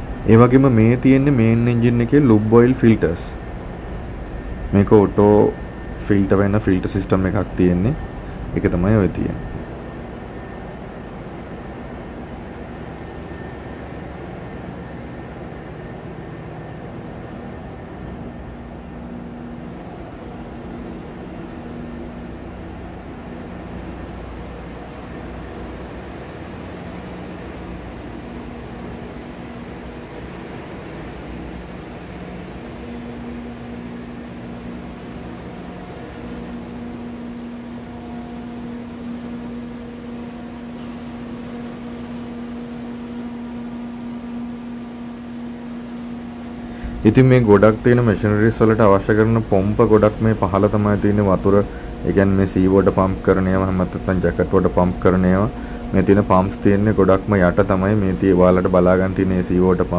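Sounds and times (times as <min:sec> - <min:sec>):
engine-room machinery drone: 0:00.0 - 0:59.9
low hums: 0:00.0 - 0:59.9.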